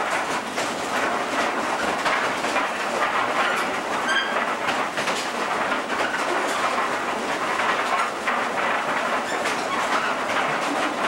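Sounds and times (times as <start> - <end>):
powder mill clattering rumble: 0.0 - 11.0.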